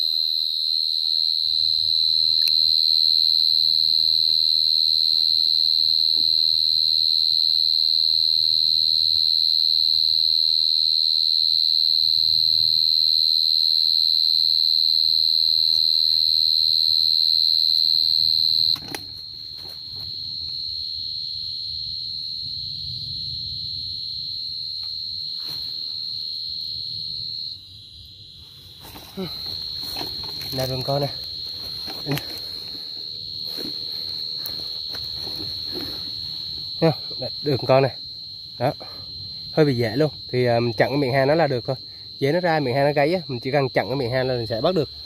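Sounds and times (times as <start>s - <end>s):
cricket trilling: 0.0s - 45.0s.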